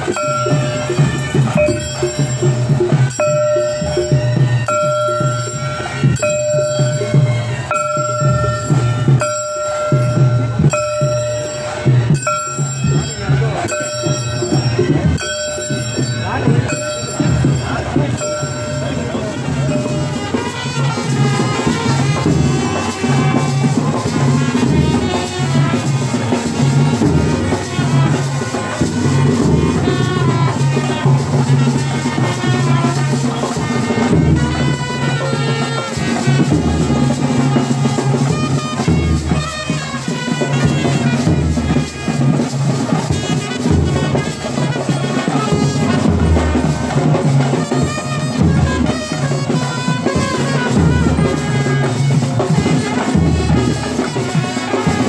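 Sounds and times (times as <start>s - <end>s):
trumpets playing a tune: 0.0s - 9.4s, 12.8s - 55.0s
drums: 0.0s - 55.0s.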